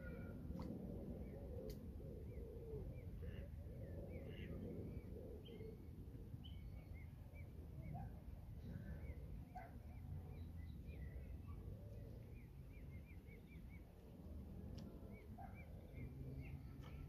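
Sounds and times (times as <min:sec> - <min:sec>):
low curving bird calls: 0:00.0 - 0:17.0.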